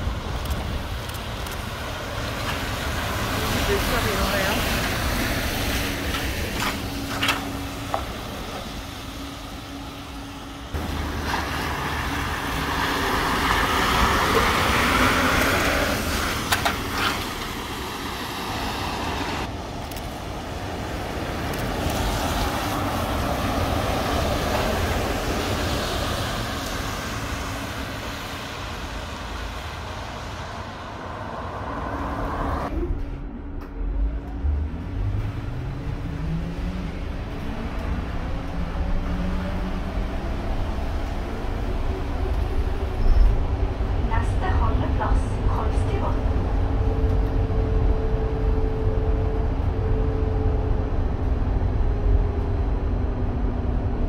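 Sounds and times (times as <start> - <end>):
trolleybus ride rumble and hiss: 0.0 - 54.0.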